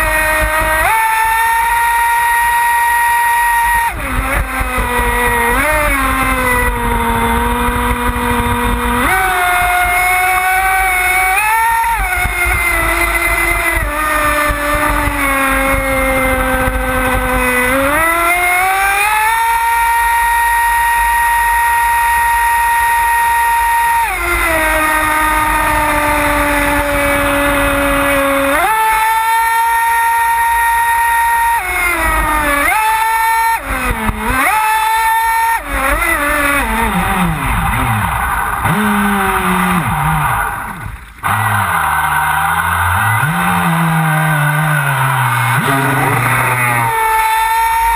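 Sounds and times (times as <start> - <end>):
electric motor whining: 0.0 - 47.9.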